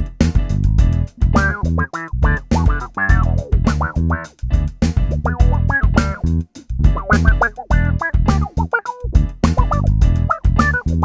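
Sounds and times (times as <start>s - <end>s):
clavinet playing choppy funk notes: 0.0s - 11.0s.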